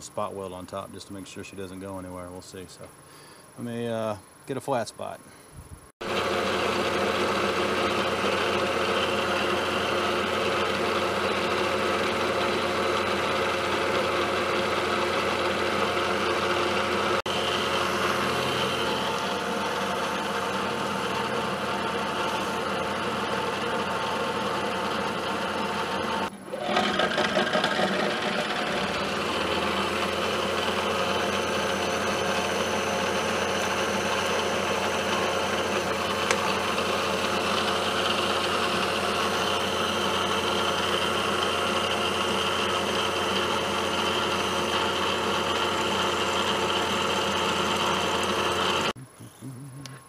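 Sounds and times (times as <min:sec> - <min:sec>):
milling machine cutting metal: 0:06.0 - 0:49.0.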